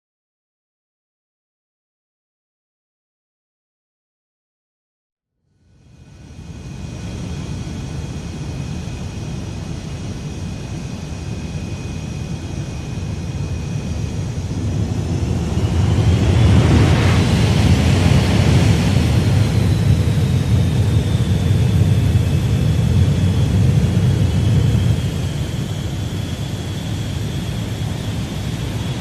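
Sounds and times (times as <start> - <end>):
jet engine rumble and whine: 5.6 - 29.0.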